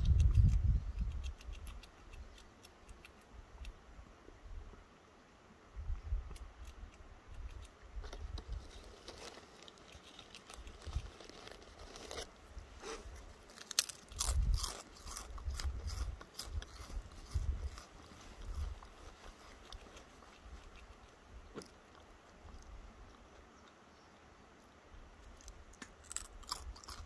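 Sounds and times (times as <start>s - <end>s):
squirrel crunching chip: 0.0s - 3.8s, 6.3s - 23.8s, 25.2s - 27.0s.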